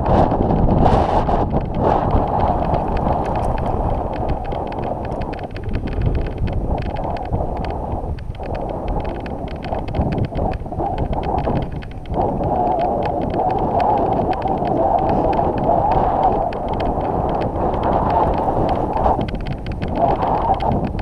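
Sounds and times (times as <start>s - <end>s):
wind buffeting microphone: 0.0s - 21.0s
light clicks and rattles: 1.4s - 21.0s.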